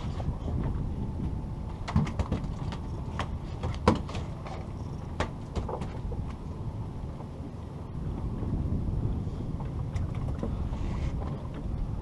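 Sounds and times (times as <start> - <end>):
low rumble aboard boat: 0.0 - 12.0.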